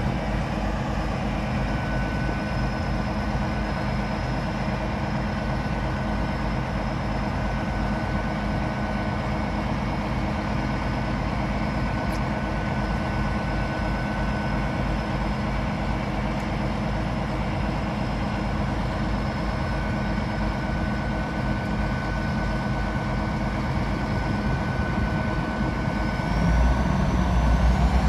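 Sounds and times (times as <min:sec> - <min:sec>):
diesel train engines idling: 0:00.0 - 0:28.0.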